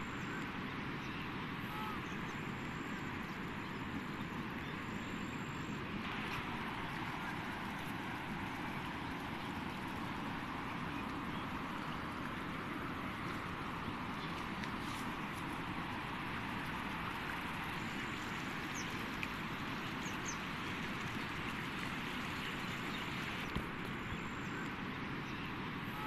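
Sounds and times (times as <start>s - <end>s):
floodwater flowing: 0.0s - 26.0s.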